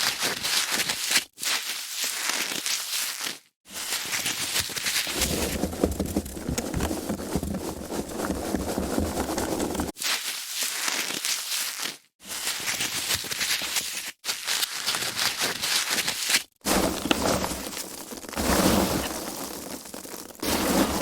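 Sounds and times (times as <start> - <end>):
foam packaging squeaking and crinkling: 0.0 - 21.0.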